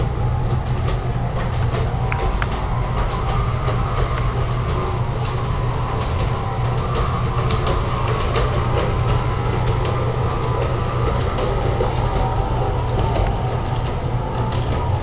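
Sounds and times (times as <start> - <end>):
model train whirring hum: 0.0 - 15.0
wheels clicking over rail joints: 0.0 - 15.0.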